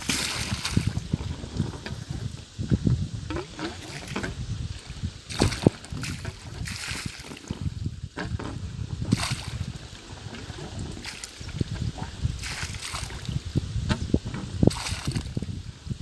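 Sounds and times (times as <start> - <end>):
water gushing and splashing from pipes: 0.0 - 7.9, 8.6 - 16.0.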